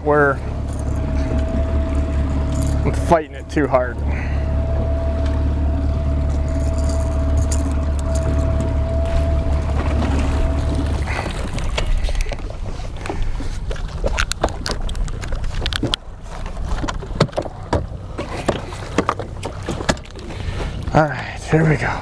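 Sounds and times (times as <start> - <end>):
boat motor humming and whining: 0.0 - 22.0
knocks and clunks on boat: 0.0 - 22.0
rough water: 0.0 - 22.0.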